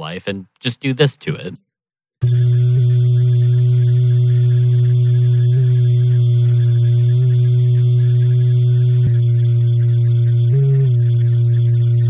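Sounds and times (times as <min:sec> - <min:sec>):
distorted kick drum drone: 0:02.2 - 0:12.0.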